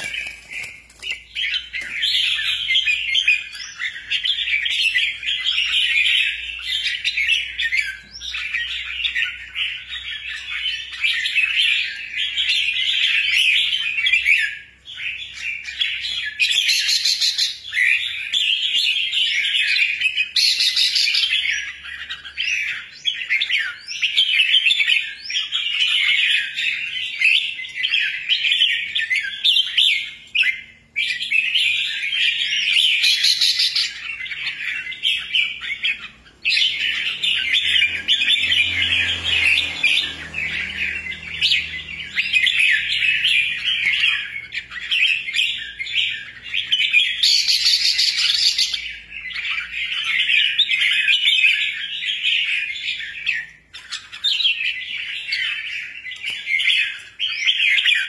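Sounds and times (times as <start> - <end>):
bird singing chattering notes: 0.0 - 58.0.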